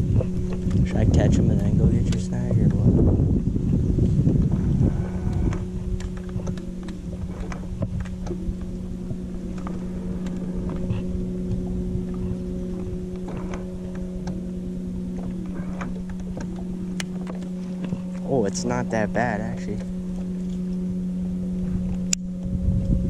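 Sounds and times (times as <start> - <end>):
electric motor humming: 0.0 - 23.0.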